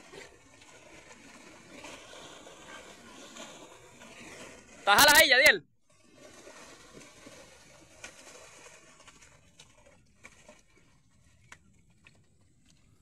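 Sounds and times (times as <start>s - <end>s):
faint water splashing: 0.0s - 13.0s.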